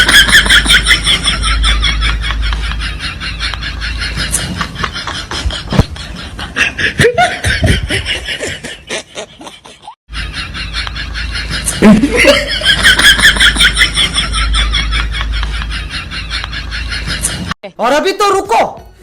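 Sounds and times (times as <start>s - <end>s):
person snickering: 0.0s - 17.5s.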